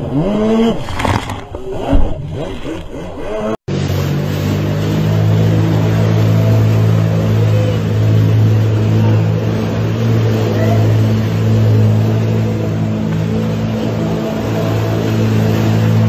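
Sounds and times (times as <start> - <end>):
jet ski engine running: 0.0 - 16.0
water churning: 0.0 - 16.0.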